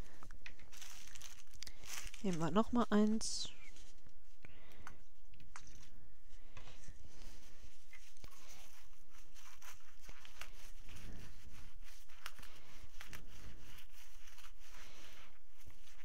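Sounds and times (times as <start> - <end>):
small rustles: 0.0 - 16.0.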